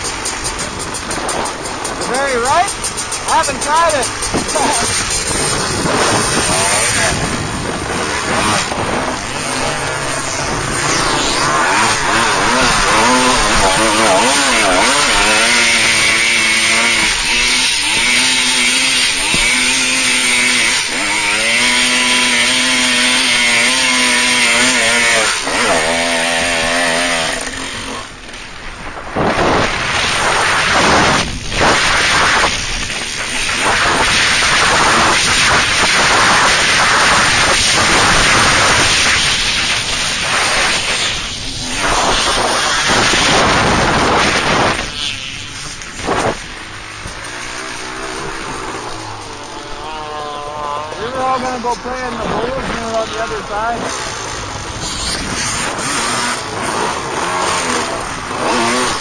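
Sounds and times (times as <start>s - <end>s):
off-road engine revving: 0.0s - 59.0s
rattle: 0.0s - 59.0s
wind on microphone: 0.0s - 59.0s.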